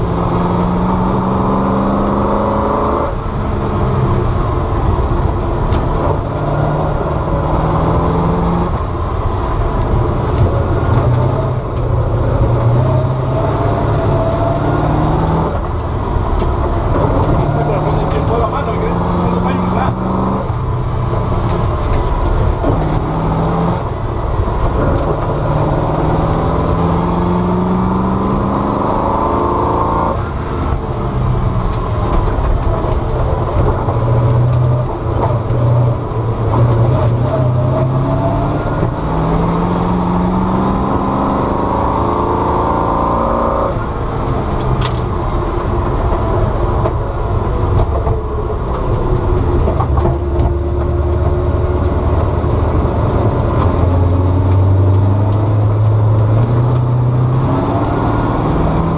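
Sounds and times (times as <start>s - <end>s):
car engine at full throttle: 0.0s - 58.9s.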